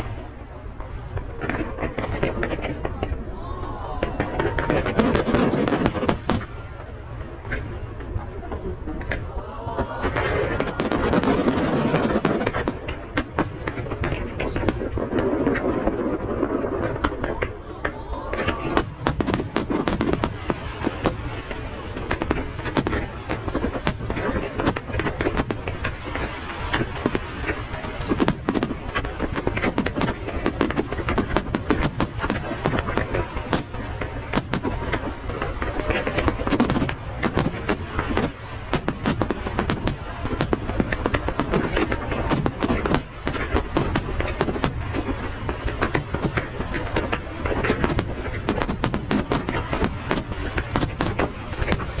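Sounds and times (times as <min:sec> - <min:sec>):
fireworks bangs and crackles: 0:00.0 - 0:52.0.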